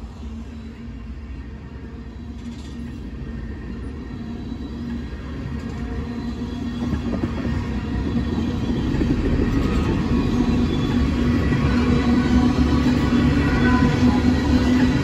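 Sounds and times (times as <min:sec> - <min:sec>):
train wheels rumbling over rails: 0:00.0 - 0:15.0.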